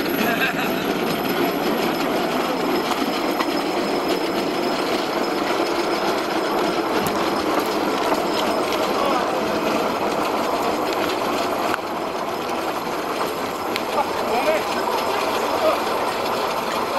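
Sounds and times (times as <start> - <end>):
steel wheels rolling on rail: 0.0 - 16.9.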